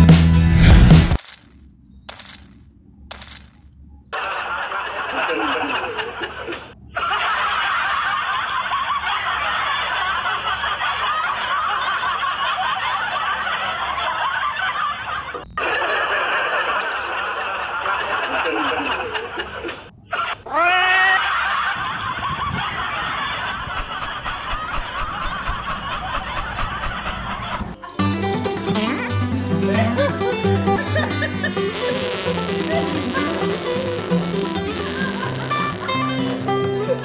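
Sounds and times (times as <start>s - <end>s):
crowd laughing: 4.2s - 37.0s.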